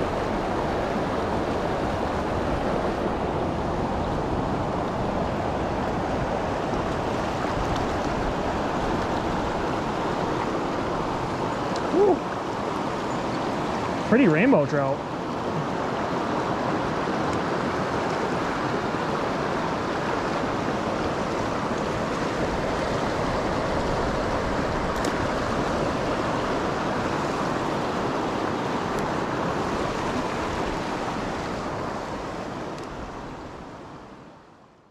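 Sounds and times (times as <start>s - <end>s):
creek rushing over stones: 0.0s - 34.0s.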